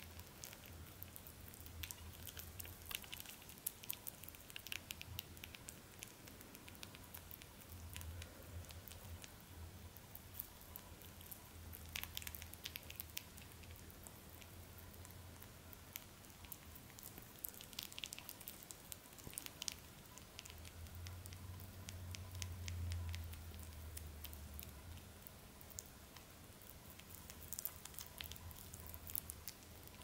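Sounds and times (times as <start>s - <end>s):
rabbit nibbling and chewing: 0.0s - 30.0s.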